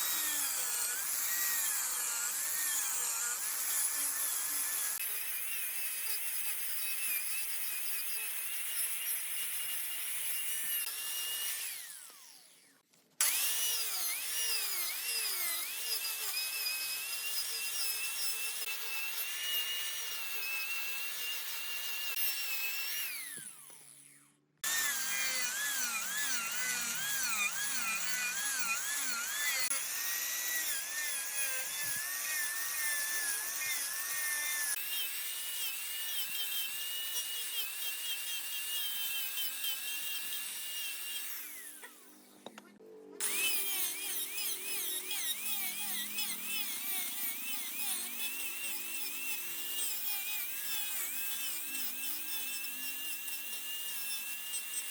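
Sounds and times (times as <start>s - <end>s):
wood lathe whining: 0.0s - 54.9s.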